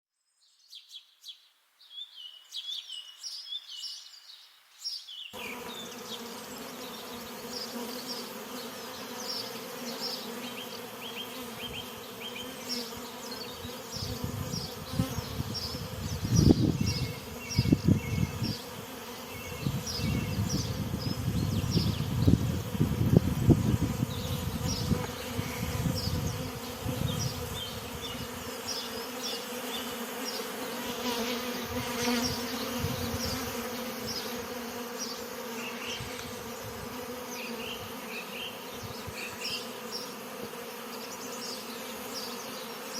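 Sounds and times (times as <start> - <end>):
songbirds chirping: 0.2 - 22.5, 24.0 - 42.9
bees buzzing: 5.4 - 42.9.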